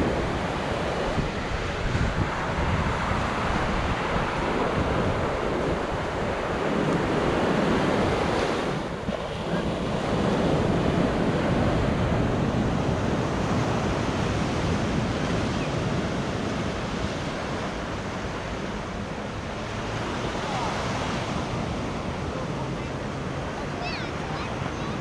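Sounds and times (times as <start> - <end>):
sea waves breaking on beach: 0.0 - 25.0
wind buffeting microphone: 0.0 - 25.0.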